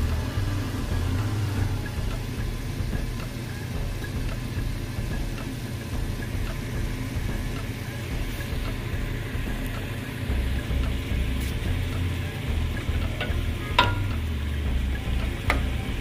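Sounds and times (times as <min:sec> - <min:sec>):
noodles crackling in a pan: 0:00.0 - 0:16.0
steady low hum: 0:00.0 - 0:16.0.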